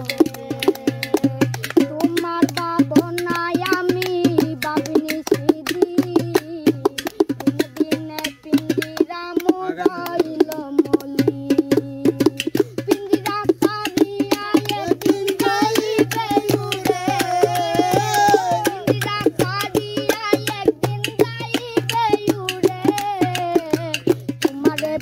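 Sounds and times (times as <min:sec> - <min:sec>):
boy singing folk song: 0:00.0 - 0:25.0
hand drum beat: 0:00.0 - 0:25.0.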